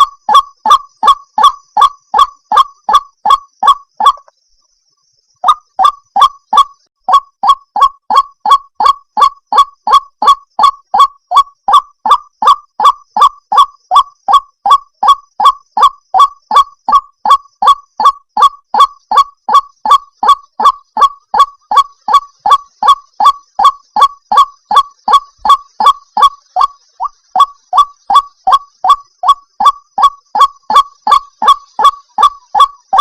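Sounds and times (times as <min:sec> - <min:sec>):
waterhen calling: 0:00.0 - 0:04.3, 0:05.4 - 0:33.0.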